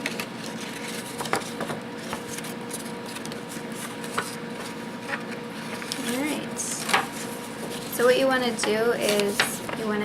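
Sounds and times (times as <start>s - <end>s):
paper rustling: 0.0s - 8.2s, 8.9s - 10.0s.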